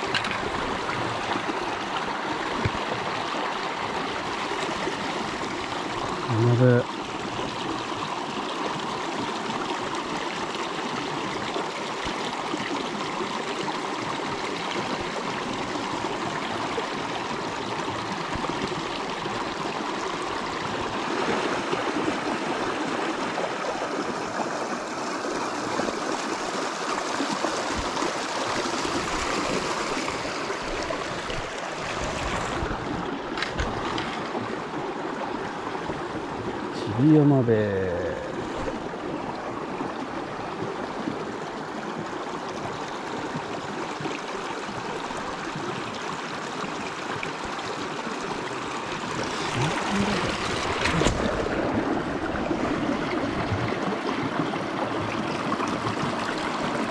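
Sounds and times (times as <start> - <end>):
creek water babbling over rocks: 0.0 - 56.9.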